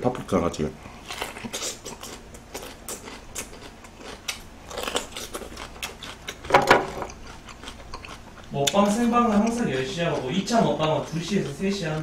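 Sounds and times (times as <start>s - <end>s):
bell pepper crunching: 1.0s - 12.0s.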